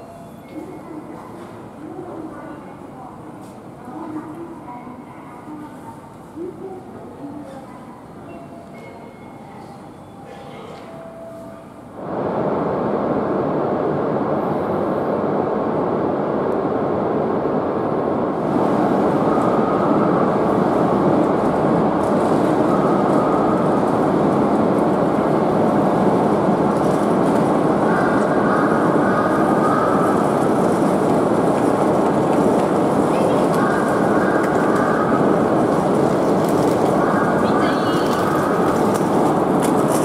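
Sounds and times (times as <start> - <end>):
train noise: 0.0 - 40.0.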